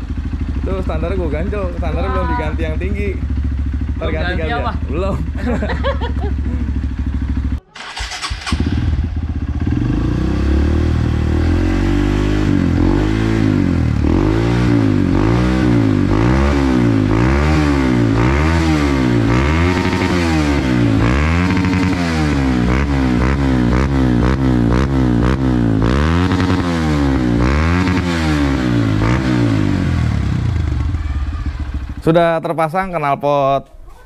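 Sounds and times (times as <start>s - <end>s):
motorcycle engine revving: 0.0s - 32.5s.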